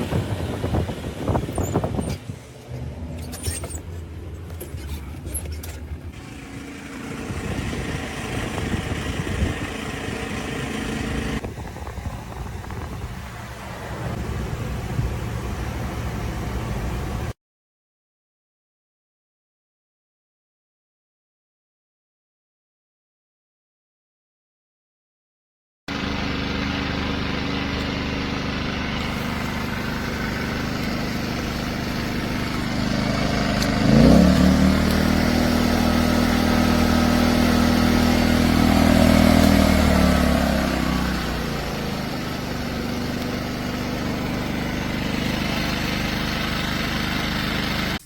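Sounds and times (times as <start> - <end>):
generator engine running: 0.0 - 17.3, 25.9 - 48.0.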